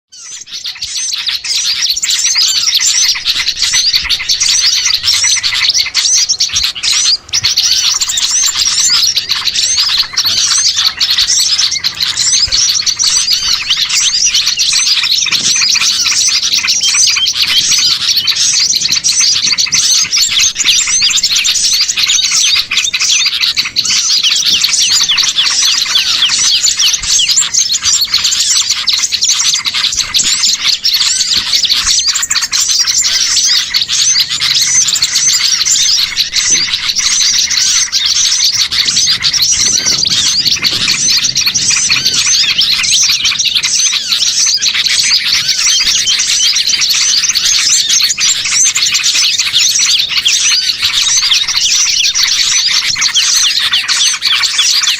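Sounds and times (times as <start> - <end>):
songbirds chirping and twittering: 0.0 - 54.9.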